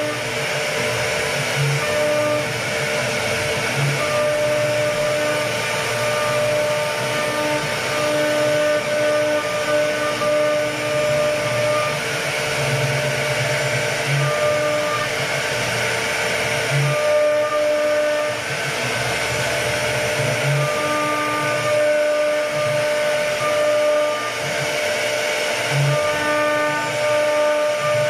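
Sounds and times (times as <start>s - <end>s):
router whirring on wood: 0.0s - 28.0s.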